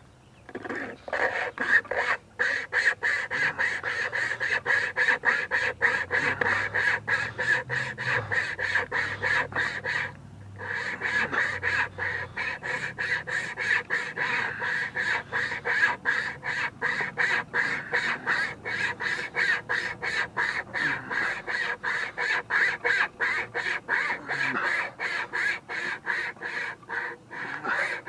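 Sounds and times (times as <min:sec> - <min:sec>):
wire saw rasping through branch: 0:02.5 - 0:28.0.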